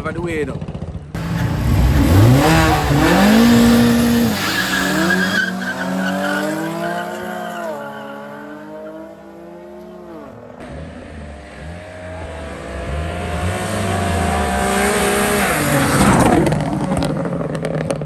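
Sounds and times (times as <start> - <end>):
drag car engine accelerating: 1.1 - 18.0.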